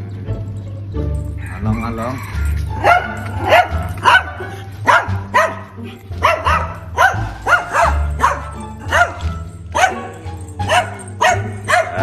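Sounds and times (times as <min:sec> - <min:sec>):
background music with low bass: 0:00.0 - 0:12.0
dog barking: 0:02.2 - 0:12.0.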